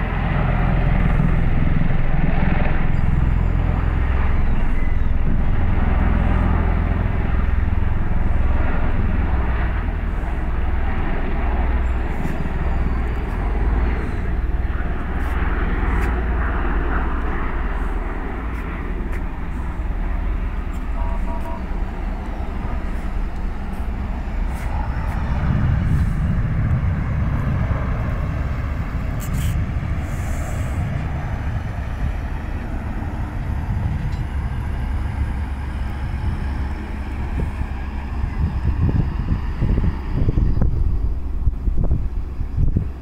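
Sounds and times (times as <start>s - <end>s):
rushing engine noise: 0.0s - 43.0s
tiltrotor aircraft flying past: 0.0s - 43.0s.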